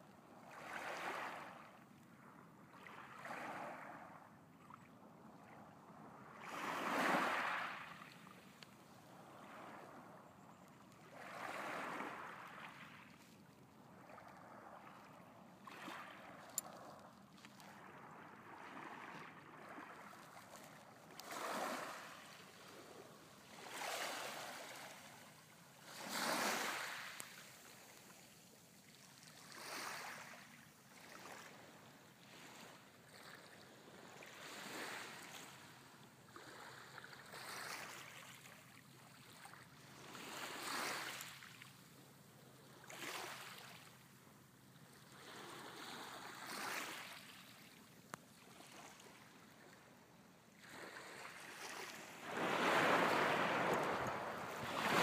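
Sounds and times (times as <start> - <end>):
waves lapping on pebbles: 0.3 - 4.2, 6.2 - 42.0, 42.6 - 49.9, 50.5 - 55.0.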